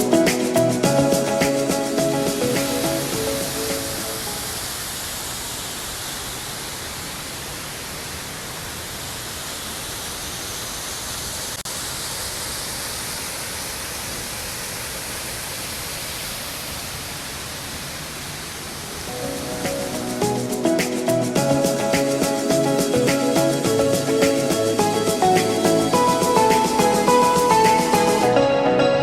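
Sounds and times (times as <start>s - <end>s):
waterfall roaring: 0.0s - 28.2s.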